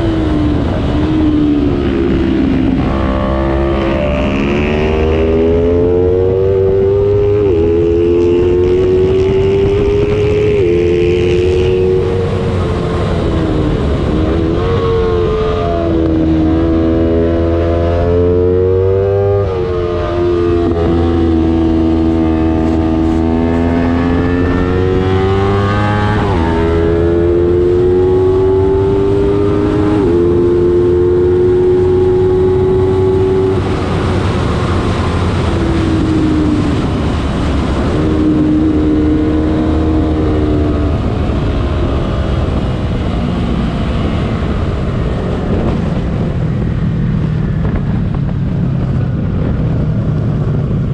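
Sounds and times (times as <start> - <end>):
race motorcycle engine revving: 0.0 - 46.4.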